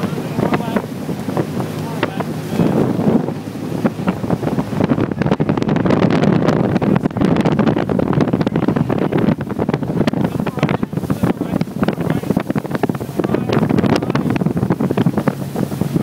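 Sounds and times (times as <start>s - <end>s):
speedboat engine running: 0.0s - 16.0s
water rushing past hull: 0.0s - 16.0s
wind buffeting microphone: 0.0s - 16.0s.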